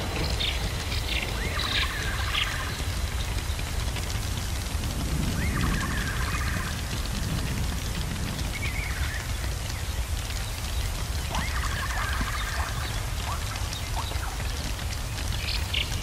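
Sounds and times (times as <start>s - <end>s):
crackling fire: 0.0s - 16.0s
steady low rumble: 0.0s - 16.0s.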